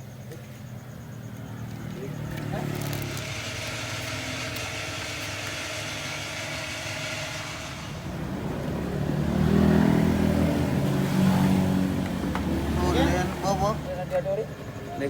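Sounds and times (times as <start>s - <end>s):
vehicle engine running: 0.7s - 15.0s
low loud engine sound: 1.1s - 14.9s.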